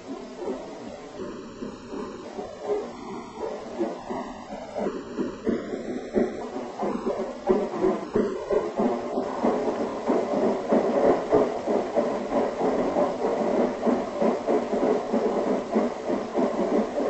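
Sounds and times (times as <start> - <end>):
rhythmic pulsing: 0.0 - 17.0.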